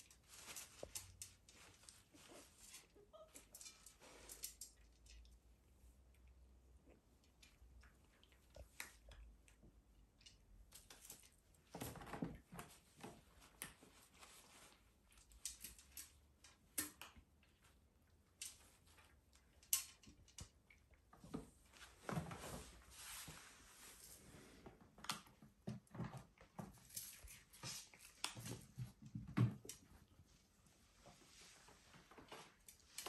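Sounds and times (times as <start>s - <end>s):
kittens' paws scratching and tapping: 0.0s - 23.2s, 23.8s - 31.2s, 31.8s - 33.0s.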